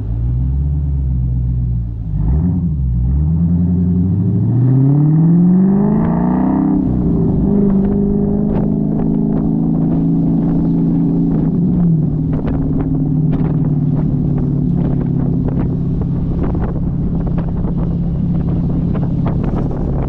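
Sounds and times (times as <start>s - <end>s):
car exhaust at cruise: 0.0s - 20.0s
wind on microphone: 3.9s - 20.0s.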